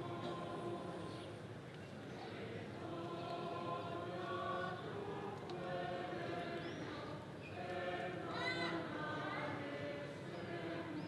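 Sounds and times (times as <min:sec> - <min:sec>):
choir singing a slow chant: 0:00.0 - 0:11.0.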